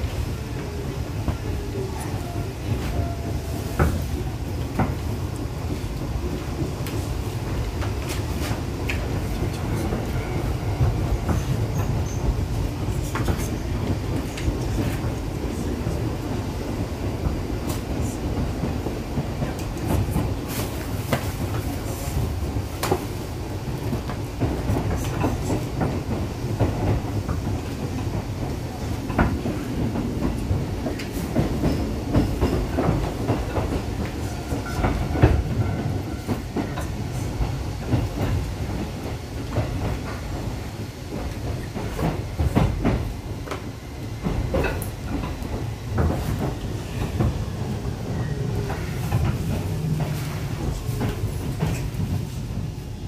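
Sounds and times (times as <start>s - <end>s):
train rumbling: 0.0s - 53.0s.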